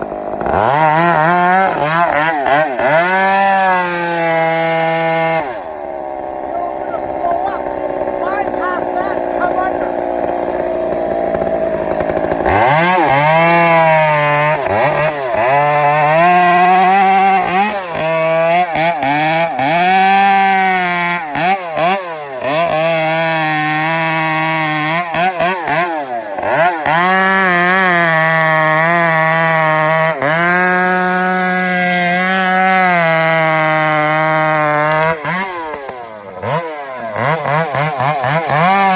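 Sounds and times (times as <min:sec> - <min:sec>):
chainsaw cutting timber: 0:00.0 - 0:38.9.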